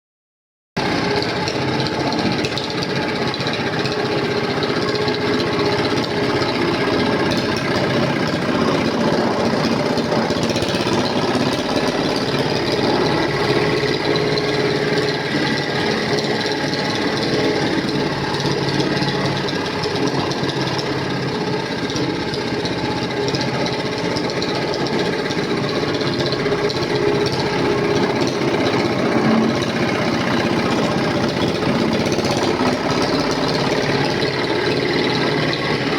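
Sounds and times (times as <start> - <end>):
roller compactor rattling: 0.8 - 35.9.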